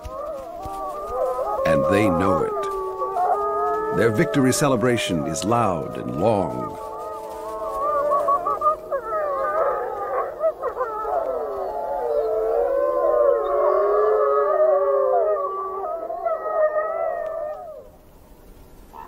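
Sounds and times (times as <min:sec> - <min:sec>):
wolves howling together: 0:00.0 - 0:18.0.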